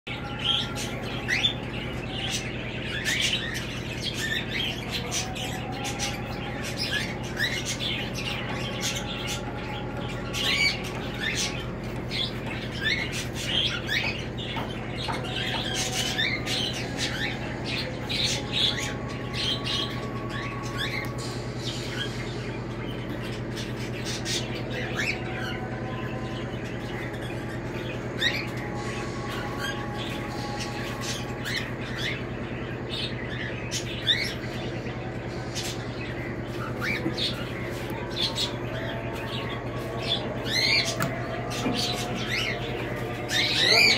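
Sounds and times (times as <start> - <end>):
steady low hum: 0.1 - 43.9
cockatiels chirping and squawking: 0.2 - 43.9.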